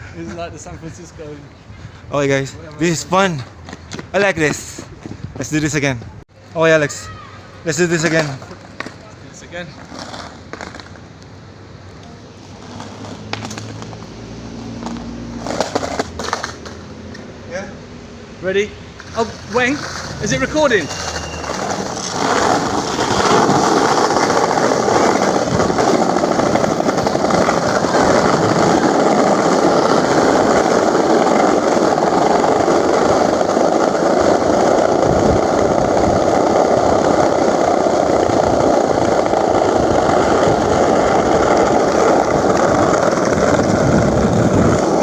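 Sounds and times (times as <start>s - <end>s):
skateboard wheels rumbling: 0.0s - 17.7s, 18.5s - 45.0s.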